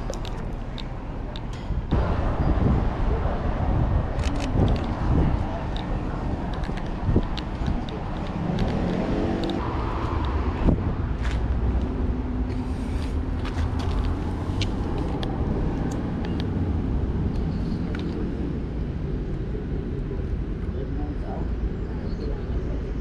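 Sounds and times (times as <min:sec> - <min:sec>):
city street traffic rumble: 0:00.0 - 0:23.0.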